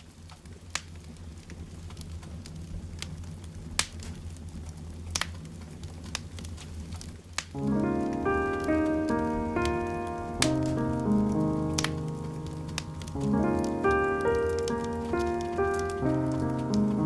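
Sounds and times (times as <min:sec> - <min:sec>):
fire low rumble: 0:00.0 - 0:17.0
wood fire pops: 0:00.0 - 0:17.0.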